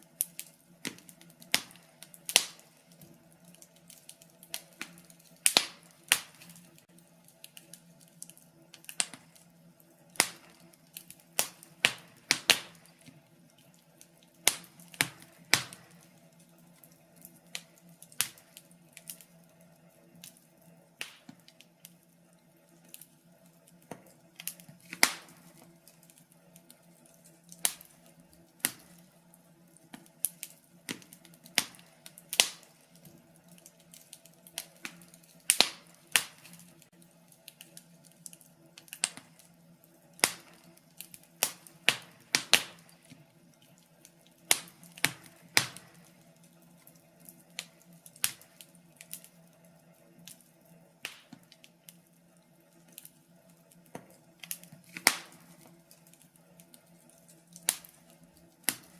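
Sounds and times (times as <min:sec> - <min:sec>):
faint steady hum: 0:00.0 - 0:58.9
fire crackling: 0:00.0 - 0:58.9.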